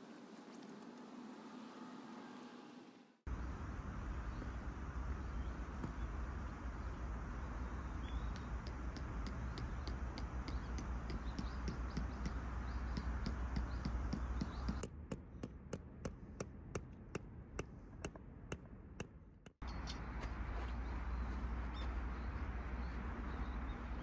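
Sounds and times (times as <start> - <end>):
low background rumble: 3.2 - 24.0.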